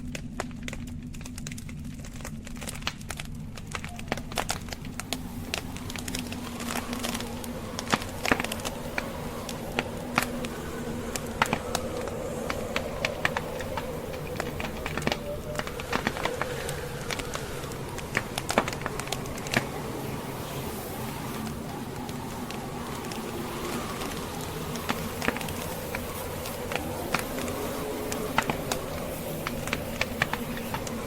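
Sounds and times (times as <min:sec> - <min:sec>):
fire crackling: 0:00.0 - 0:31.0
low rumble of wind: 0:00.0 - 0:31.0.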